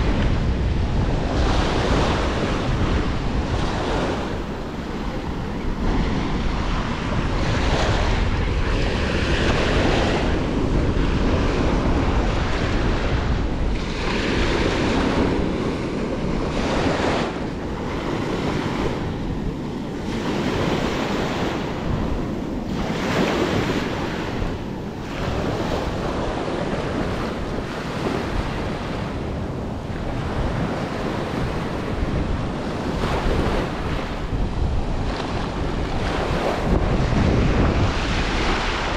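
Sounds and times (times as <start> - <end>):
small waves on sandy shore: 0.0 - 38.9
wind rumbling on microphone: 0.0 - 38.9.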